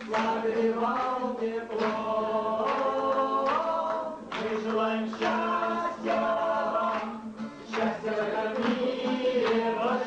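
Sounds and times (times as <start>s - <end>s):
men singing in harmony: 0.0s - 10.0s
strummed acoustic guitar: 0.0s - 10.0s.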